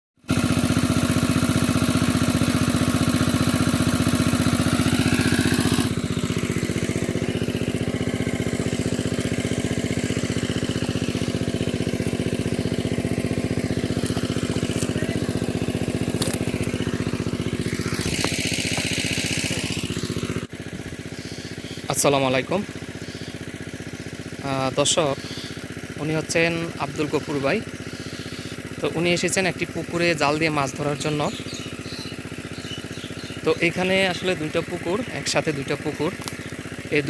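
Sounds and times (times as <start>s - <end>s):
small engine running: 0.2s - 37.0s.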